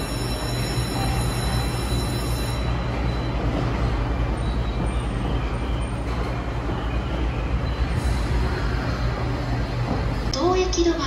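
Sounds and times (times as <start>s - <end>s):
electric train humming drone: 0.0s - 11.0s.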